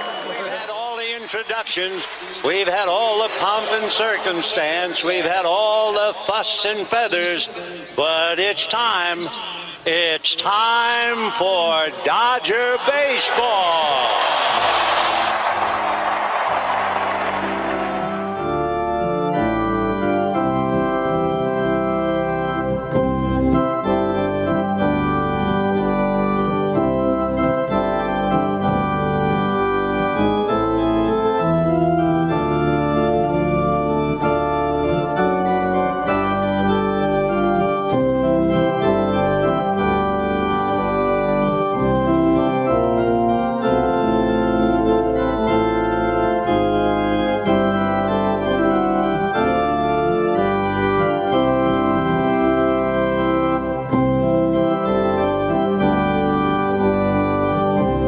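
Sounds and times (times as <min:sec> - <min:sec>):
electric organ music: 0:00.0 - 0:10.2, 0:10.8 - 0:58.0.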